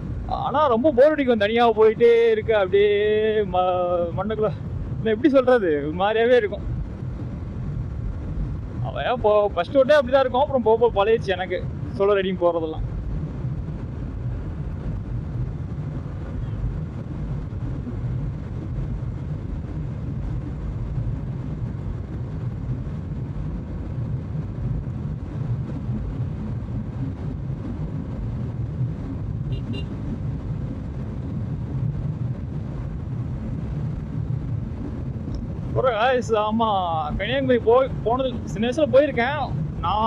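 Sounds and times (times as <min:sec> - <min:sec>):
motorcycle engine and road rumble: 0:00.0 - 0:40.0.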